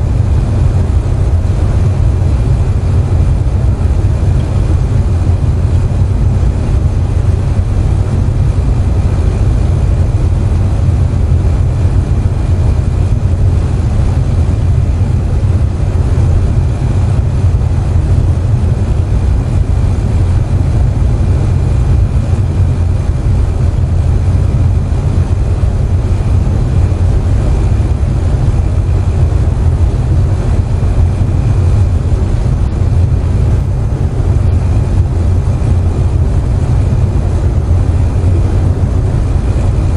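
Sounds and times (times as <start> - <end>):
air conditioner humming: 0.0 - 39.9.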